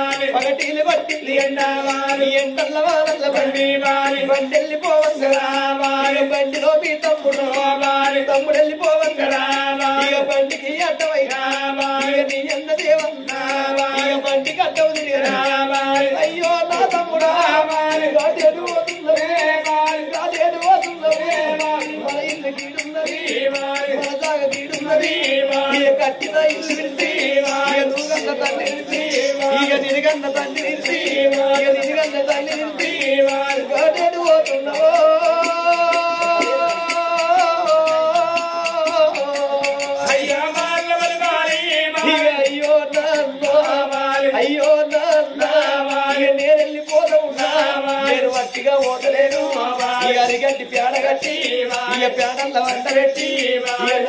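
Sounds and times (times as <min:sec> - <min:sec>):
hand drum beat: 0:00.0 - 0:54.0
man singing chant-like tune: 0:00.0 - 0:54.0
small hand cymbals: 0:00.0 - 0:54.0.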